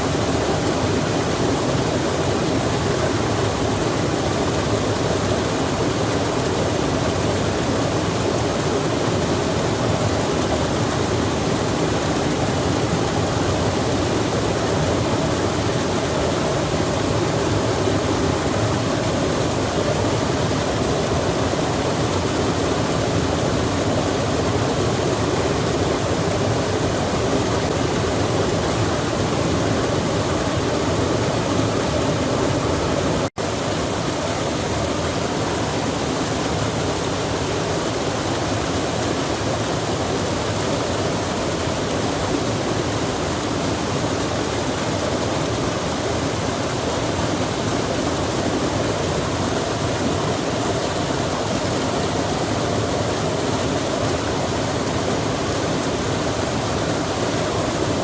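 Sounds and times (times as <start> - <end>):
rush of flowing water: 0.0 - 58.0.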